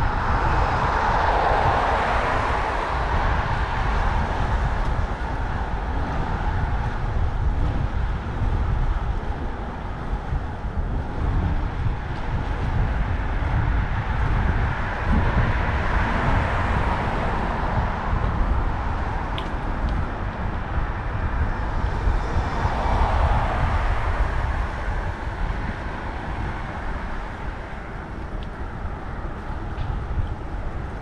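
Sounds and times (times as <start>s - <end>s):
street traffic rumble: 0.0s - 31.0s.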